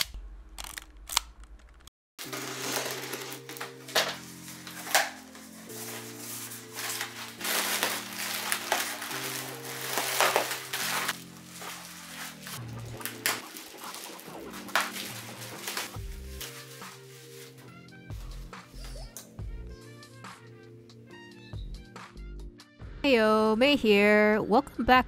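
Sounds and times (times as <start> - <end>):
instrumental background music: 2.2 - 25.0.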